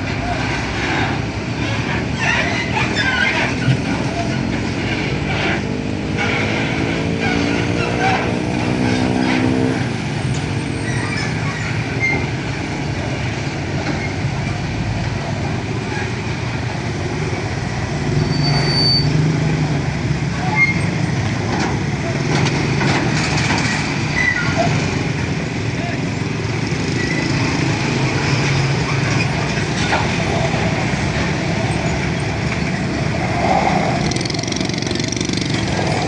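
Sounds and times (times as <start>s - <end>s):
heavy vehicle engine running: 0.0s - 36.0s
road traffic noise: 0.0s - 36.0s.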